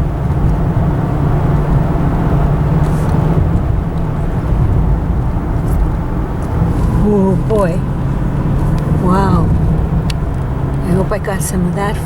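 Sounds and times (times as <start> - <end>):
car engine and road rumble: 0.0 - 12.0
held low tones: 0.0 - 12.0.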